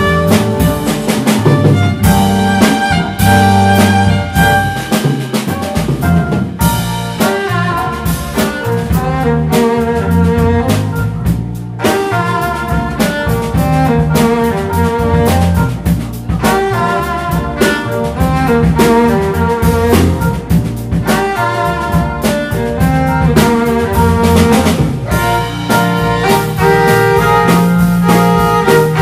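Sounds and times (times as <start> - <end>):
drum kit steady beat: 0.0 - 29.0
electric bass: 0.0 - 29.0
keyboards: 0.0 - 29.0.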